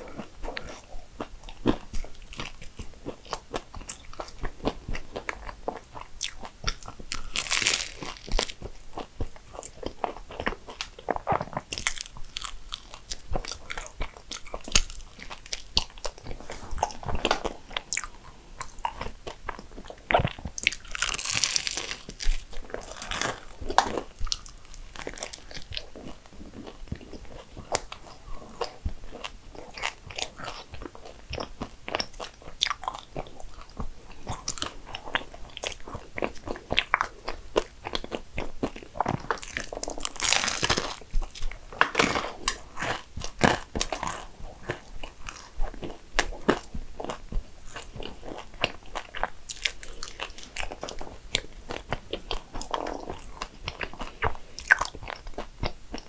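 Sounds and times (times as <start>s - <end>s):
chewing crunchy pastry: 0.0s - 56.0s.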